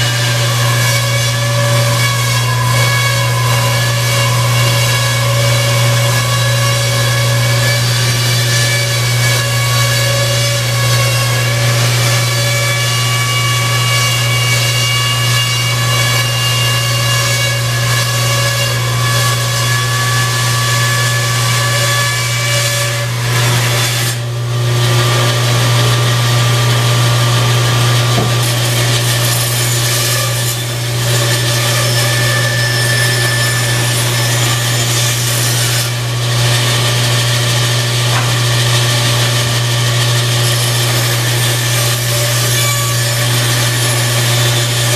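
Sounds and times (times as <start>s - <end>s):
bandsaw humming and whining: 0.0s - 44.9s
saw blade cutting wood: 0.0s - 44.9s.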